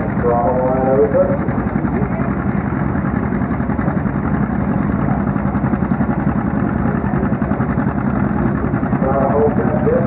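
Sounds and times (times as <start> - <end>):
tractor engines running hard: 0.0 - 10.0.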